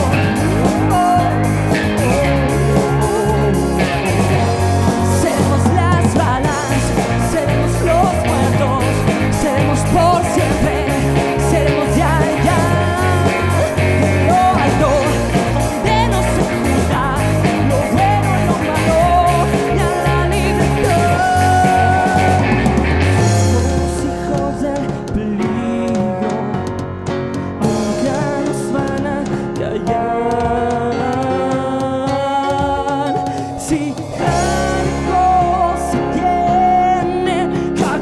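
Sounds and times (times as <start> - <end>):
drum kit: 0.0 - 38.0
electric guitars: 0.0 - 38.0
lead vocal singing: 0.0 - 38.0
synthesizers: 0.0 - 38.0.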